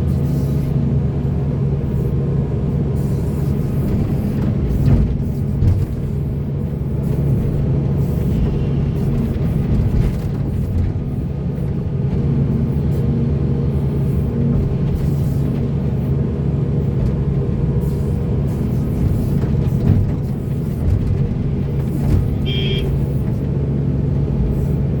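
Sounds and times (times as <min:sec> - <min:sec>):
heavy diesel machinery drone: 0:00.0 - 0:25.0.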